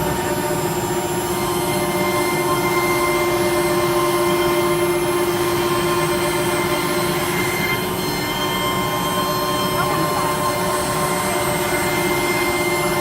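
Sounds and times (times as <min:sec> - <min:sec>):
router machine whining: 0:00.0 - 0:13.0.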